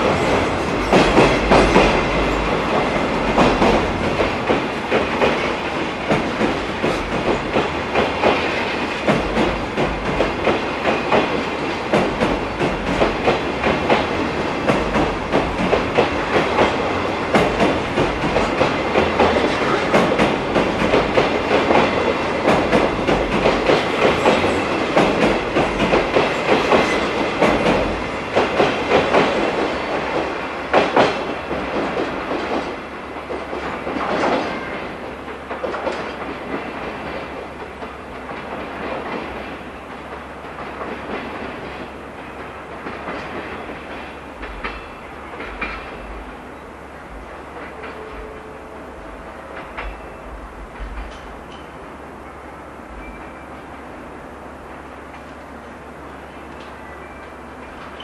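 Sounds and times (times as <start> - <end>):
train wheels clattering over rail joints: 0.0 - 51.9.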